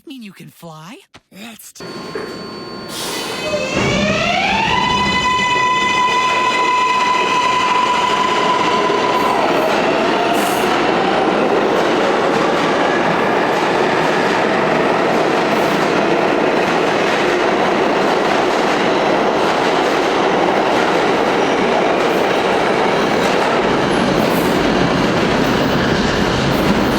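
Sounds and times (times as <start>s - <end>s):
train running on rails: 1.8s - 26.9s.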